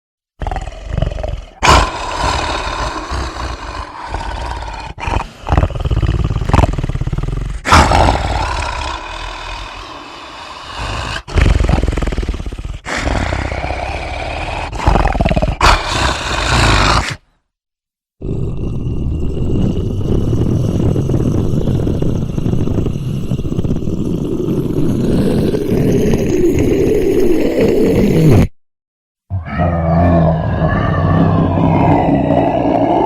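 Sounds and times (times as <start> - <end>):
creature roars and growls: 0.4 - 17.2, 18.2 - 28.5, 29.3 - 33.0.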